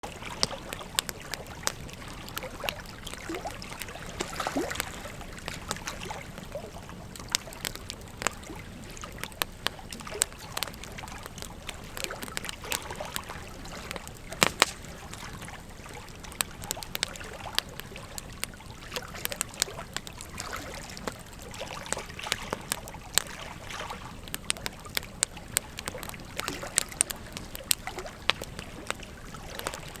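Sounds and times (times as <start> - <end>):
fire popping and snapping: 0.0 - 30.0
wood fire crackling: 0.0 - 30.0.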